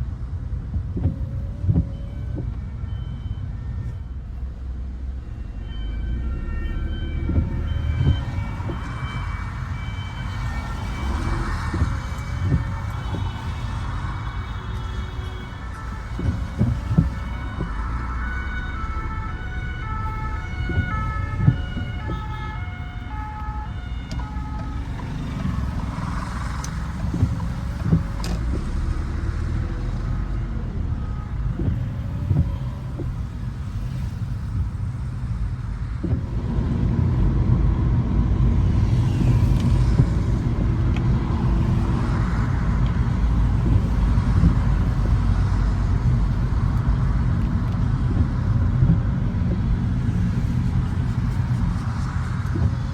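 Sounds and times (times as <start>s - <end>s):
car driving on wet road: 0.0s - 52.9s
rain: 0.0s - 52.9s
two-tone emergency siren: 1.0s - 52.9s.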